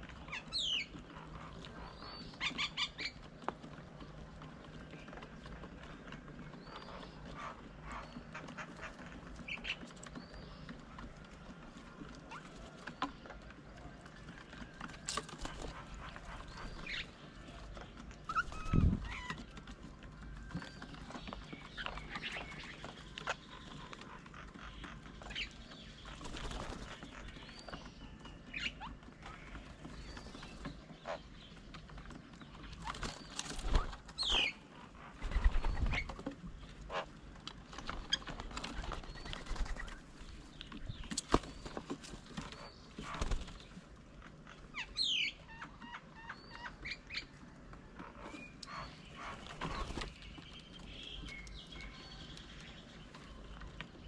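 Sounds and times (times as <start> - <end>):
birds chirping and calling: 0.0 - 54.0.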